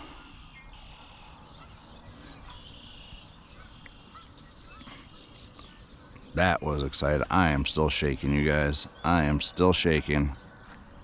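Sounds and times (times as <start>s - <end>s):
faint bird calls: 0.0s - 11.0s.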